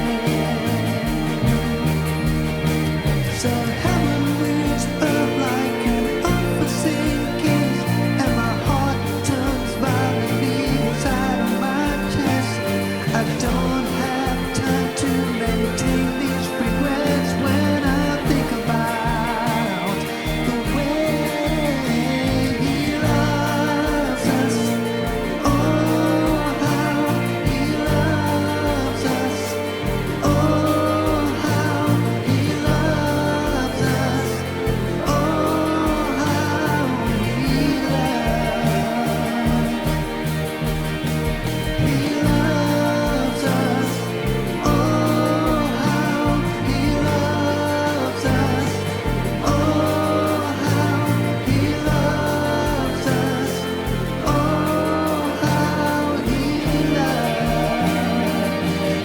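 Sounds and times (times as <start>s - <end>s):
band with bass and beat: 0.0s - 59.0s
person singing: 0.0s - 59.0s.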